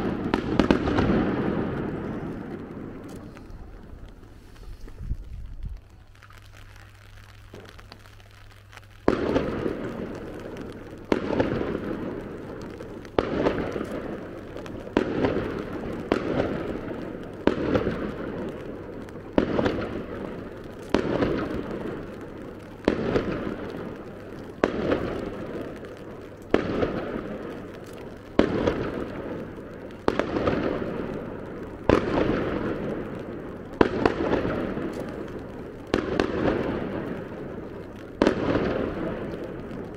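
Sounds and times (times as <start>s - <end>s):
firework shells bursting: 0.0s - 39.9s.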